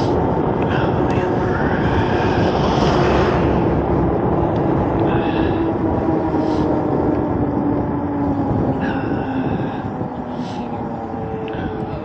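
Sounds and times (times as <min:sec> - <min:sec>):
low motor hum: 0:00.0 - 0:12.0
wind rushing over microphone: 0:00.0 - 0:12.0.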